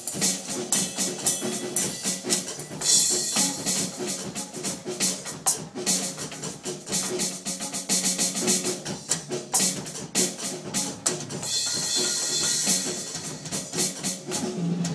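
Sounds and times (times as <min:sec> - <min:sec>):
electronic drum hits: 0:00.0 - 0:09.0, 0:09.6 - 0:14.9.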